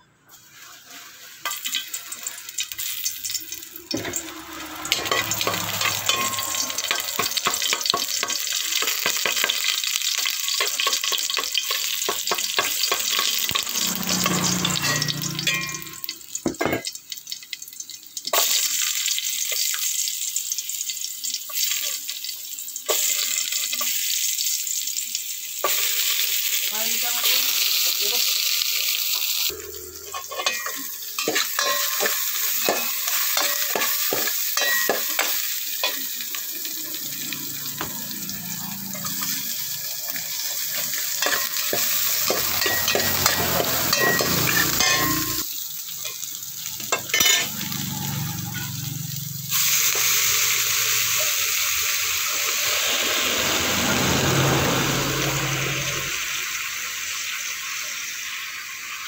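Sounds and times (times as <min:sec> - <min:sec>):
vegetables sizzling in a pot: 0:00.0 - 0:59.0.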